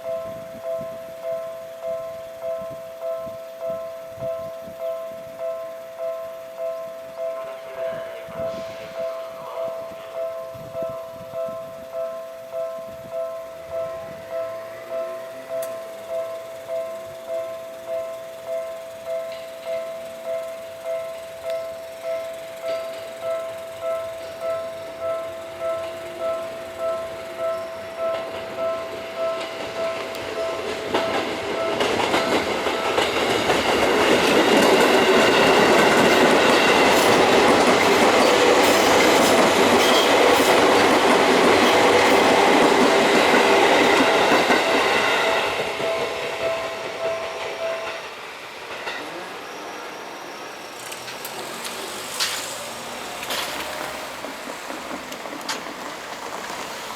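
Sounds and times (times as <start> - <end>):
level crossing bell ringing: 0.0 - 48.1
electric train passing: 0.0 - 56.9.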